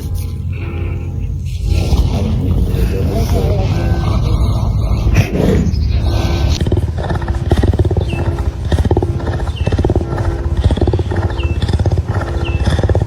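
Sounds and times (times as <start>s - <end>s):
big cat rumbling: 0.0s - 13.0s.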